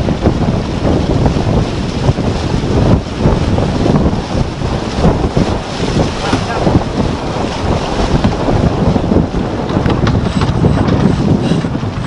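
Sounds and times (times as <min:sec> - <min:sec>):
water splashing along boat hull: 0:00.0 - 0:12.0
wind buffeting microphone: 0:00.0 - 0:12.0.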